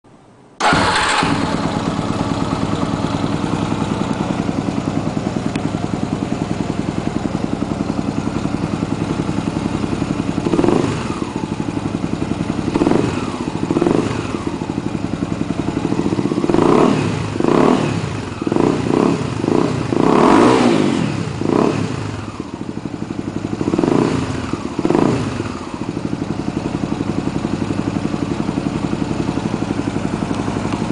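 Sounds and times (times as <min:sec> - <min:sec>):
motorcycle engine idling and revving: 0:00.6 - 0:30.9.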